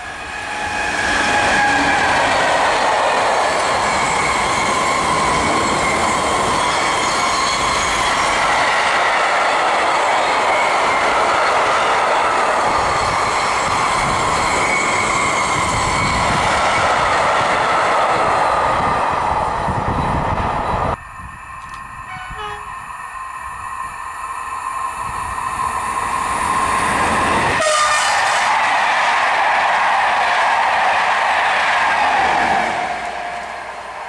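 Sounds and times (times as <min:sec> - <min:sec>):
passenger train passing: 0:00.0 - 0:34.0.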